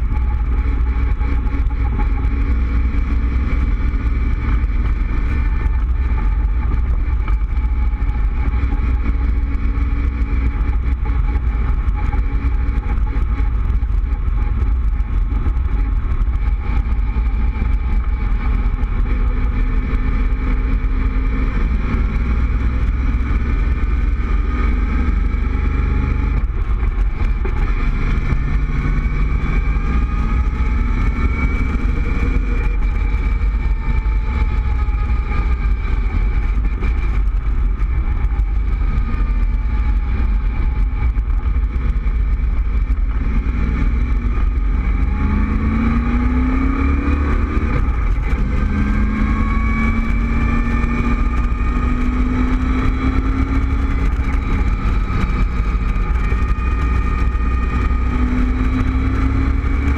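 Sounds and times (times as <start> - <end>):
car engine cruising: 0.0 - 59.9
wind rush on microphone: 0.0 - 59.9.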